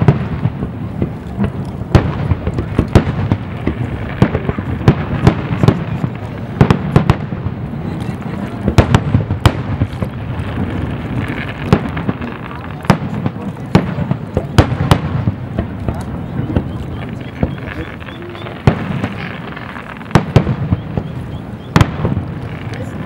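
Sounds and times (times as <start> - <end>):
fireworks bangs: 0.0 - 23.0
low rumble and crackle: 0.0 - 23.0.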